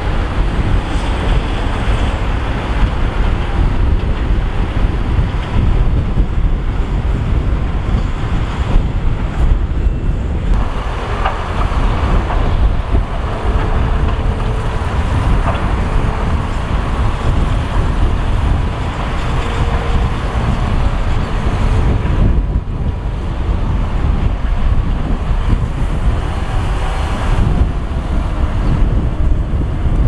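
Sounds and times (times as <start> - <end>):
diesel truck engine running: 0.0 - 30.0
wind rumble on microphone: 0.0 - 30.0.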